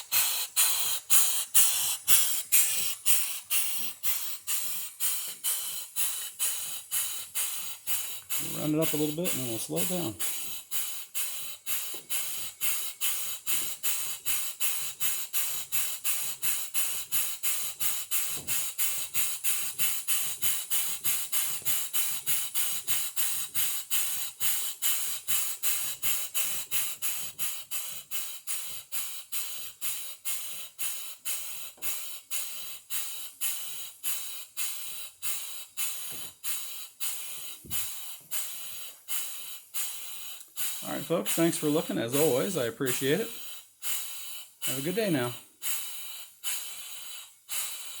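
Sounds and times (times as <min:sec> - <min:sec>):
steam engine exhaust chuffing: 0:00.0 - 0:48.0.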